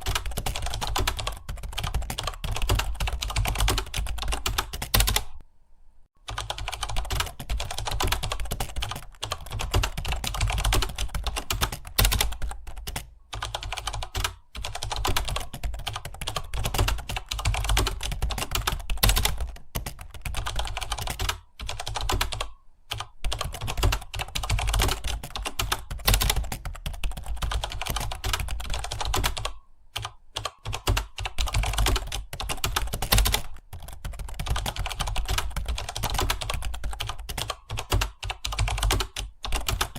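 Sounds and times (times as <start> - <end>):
fast keyboard typing: 0.0 - 5.4, 6.2 - 39.9.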